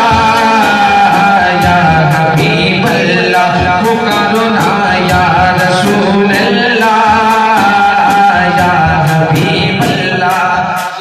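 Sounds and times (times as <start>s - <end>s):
man singing into a microphone: 0.0s - 11.0s
steady beat of sharp strikes: 0.0s - 11.0s.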